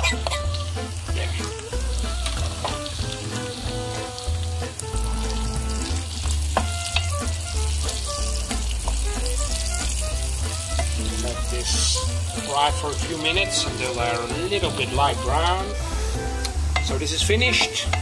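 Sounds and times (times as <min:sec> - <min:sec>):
background music with bass: 0:00.0 - 0:18.0
bacon sizzling in frying pan: 0:00.0 - 0:18.0.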